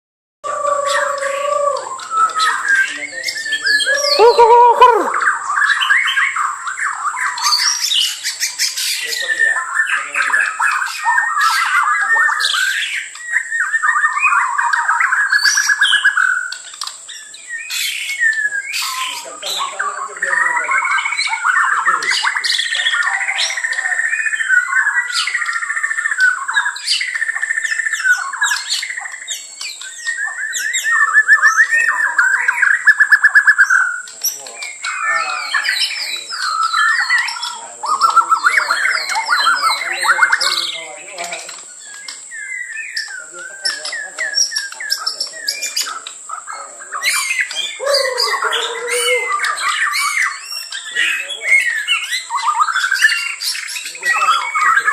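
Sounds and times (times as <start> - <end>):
songbirds chirping and warbling: 0.4 - 54.9.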